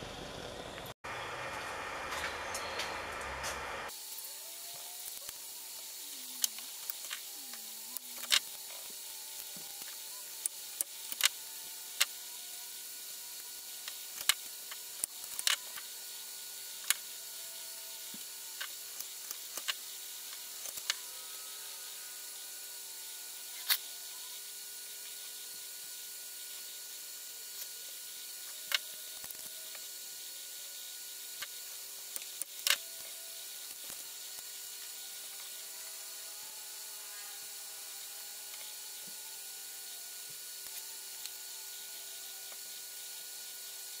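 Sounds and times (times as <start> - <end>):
steady hiss: 3.6 - 44.0.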